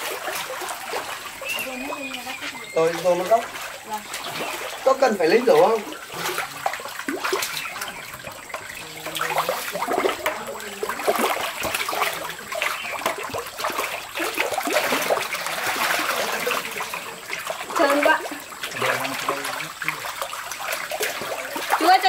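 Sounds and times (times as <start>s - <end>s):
water splashing in a tank: 0.0s - 22.0s.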